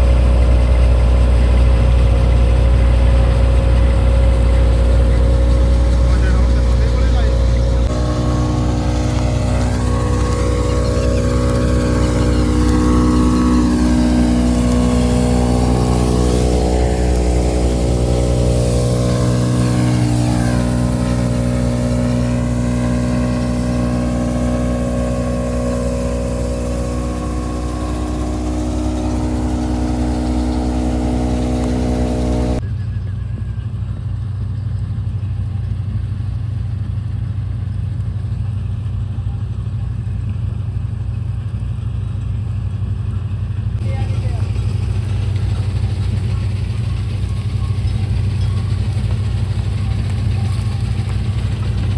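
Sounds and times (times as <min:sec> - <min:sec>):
combine harvester engine running: 0:00.0 - 0:51.9.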